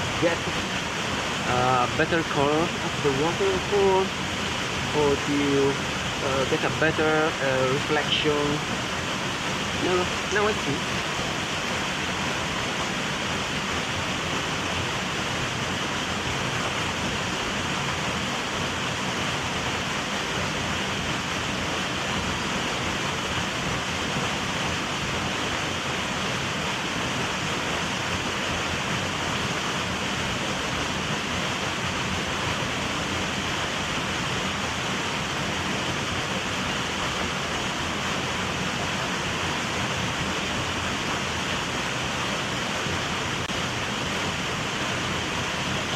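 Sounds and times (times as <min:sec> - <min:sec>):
small waterfall rushing: 0:00.0 - 0:45.9.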